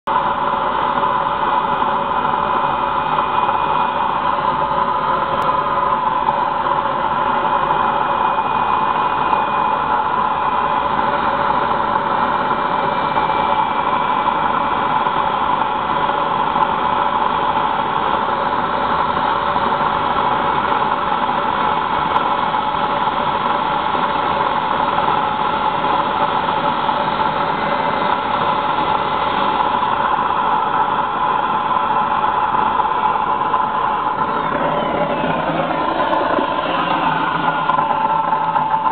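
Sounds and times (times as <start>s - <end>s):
jet turbine roaring: 0.1s - 38.9s.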